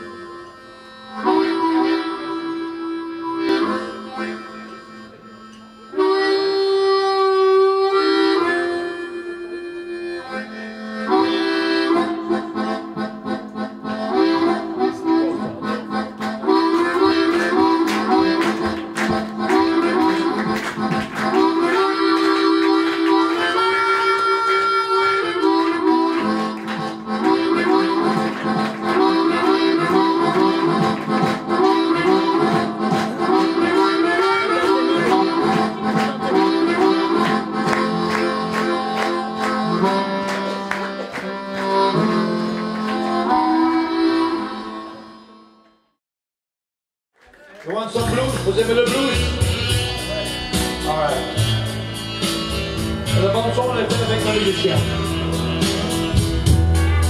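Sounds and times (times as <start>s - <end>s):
rhythmic backing: 0.0s - 45.3s, 47.7s - 57.0s
blues harmonica playing: 0.0s - 46.0s, 48.0s - 57.0s.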